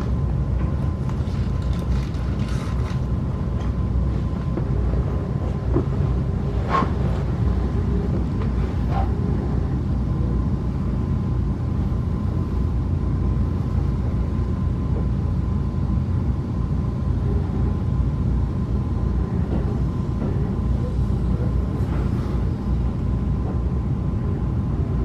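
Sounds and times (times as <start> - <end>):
train coach rumbling on rails: 0.0 - 25.0.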